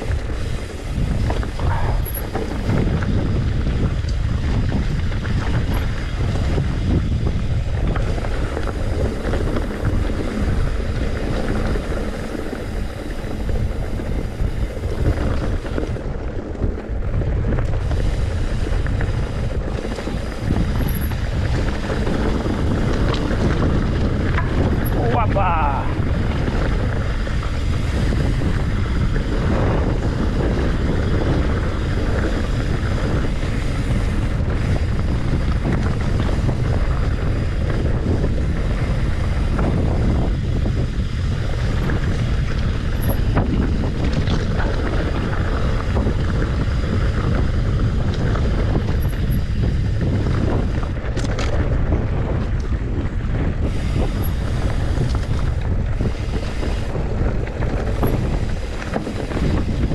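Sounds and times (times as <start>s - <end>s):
bike clicks and rattles: 0.0s - 59.9s
wind buffeting the microphone: 0.0s - 59.9s.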